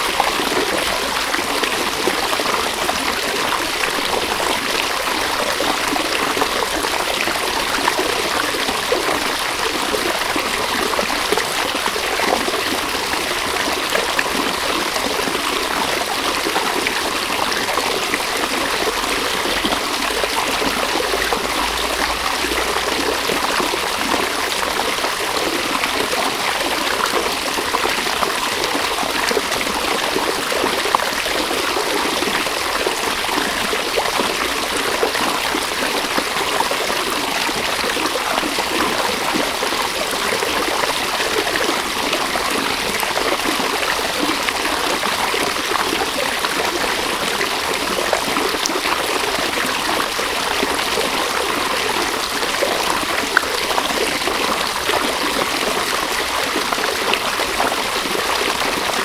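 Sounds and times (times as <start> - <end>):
river water running over stones: 0.0 - 59.0.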